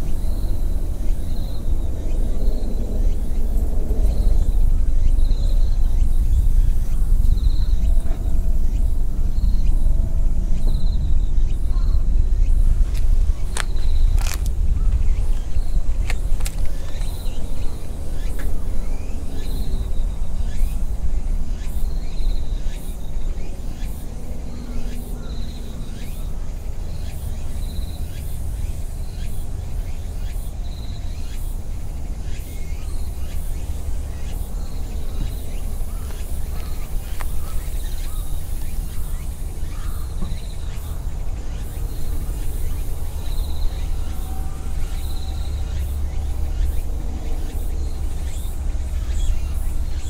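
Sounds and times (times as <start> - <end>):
steady low rumble: 0.0 - 50.0.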